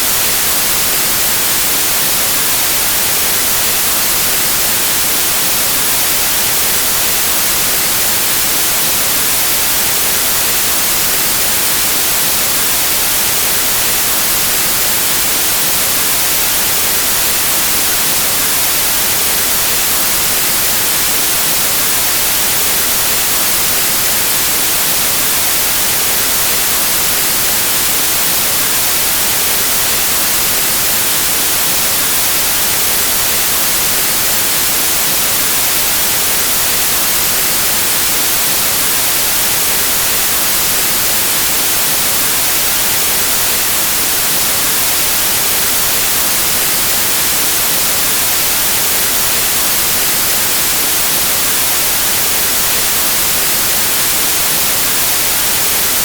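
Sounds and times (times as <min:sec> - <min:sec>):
white noise static hiss: 0:00.0 - 0:56.0.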